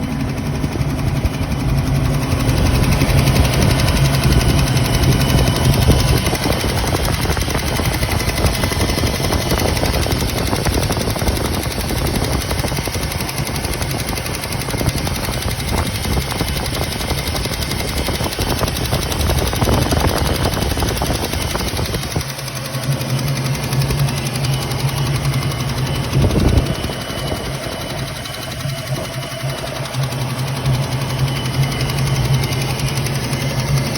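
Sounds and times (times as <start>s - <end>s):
car engine running: 0.0s - 33.9s
engine revving: 0.0s - 33.9s.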